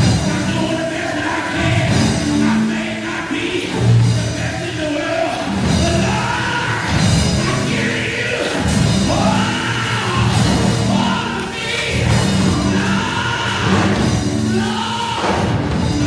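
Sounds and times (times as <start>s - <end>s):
instrumental backing with beat: 0.0s - 16.0s
man singing into a microphone: 0.0s - 16.0s.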